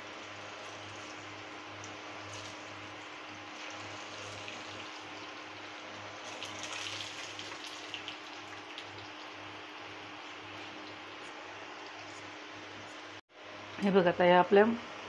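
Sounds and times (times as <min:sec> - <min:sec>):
food deep-frying in oil: 0:00.0 - 0:13.2.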